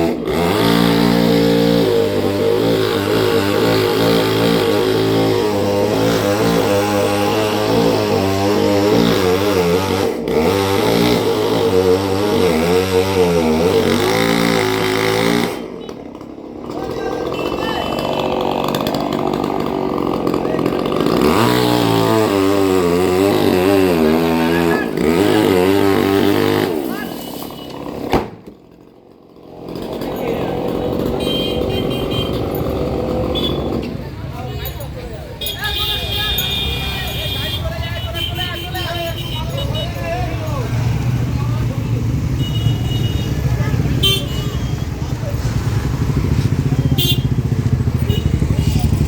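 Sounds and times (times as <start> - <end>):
chainsaw engine wavering: 0.0 - 49.0.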